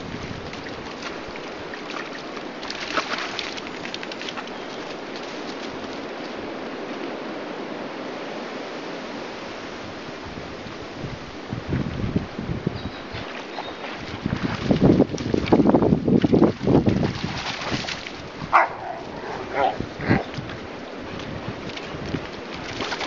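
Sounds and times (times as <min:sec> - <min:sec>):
stream flowing over stones: 0:00.0 - 0:10.2, 0:12.9 - 0:23.0
wind buffeting microphone: 0:00.0 - 0:23.0.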